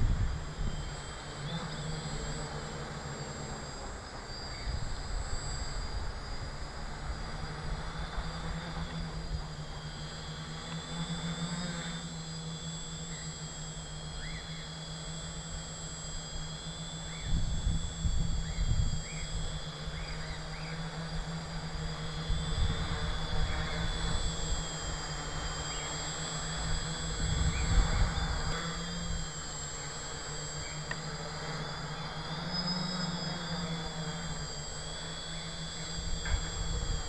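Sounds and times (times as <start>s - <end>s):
motors and propellers whirring: 0.0s - 37.0s.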